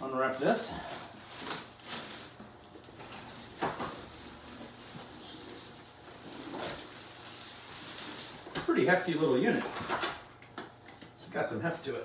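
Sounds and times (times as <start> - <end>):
plastic wrapping rustling: 0.0 - 10.2.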